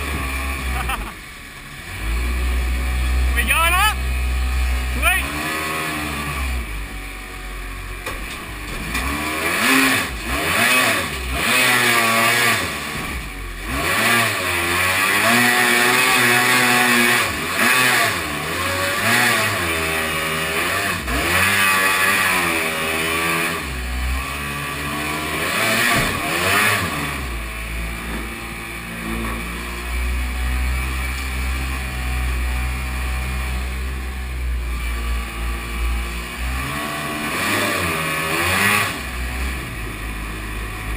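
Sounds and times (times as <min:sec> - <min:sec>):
jet boat engine revving: 0:00.0 - 0:07.9, 0:08.8 - 0:40.9.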